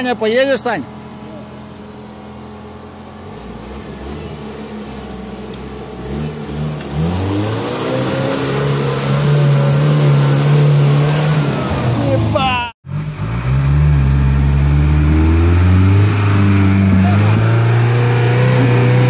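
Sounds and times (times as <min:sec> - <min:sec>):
jeep engine revving under load: 0:03.1 - 0:19.0.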